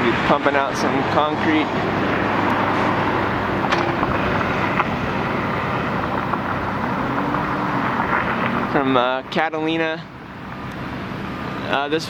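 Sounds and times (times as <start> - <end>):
construction site noise: 0.0 - 12.0
diesel truck engine running: 0.0 - 12.0
wind: 0.0 - 12.0.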